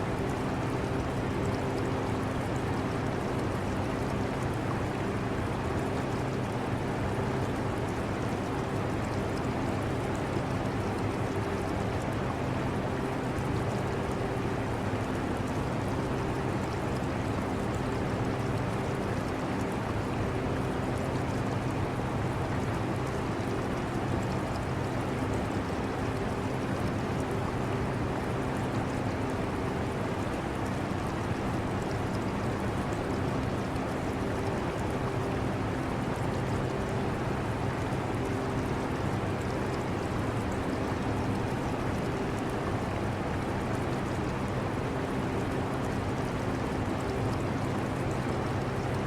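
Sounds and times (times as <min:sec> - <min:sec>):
aquarium water bubbling: 0:00.0 - 0:49.0.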